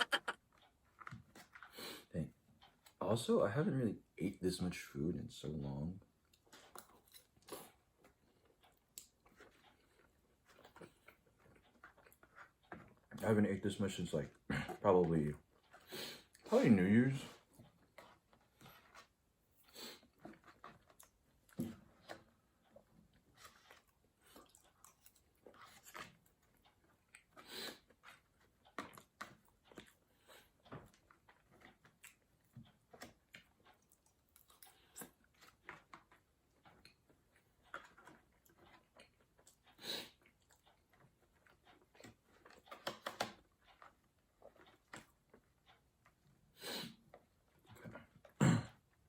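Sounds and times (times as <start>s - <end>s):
person chewing food: 0.0s - 3.0s, 6.2s - 13.2s, 17.3s - 49.0s.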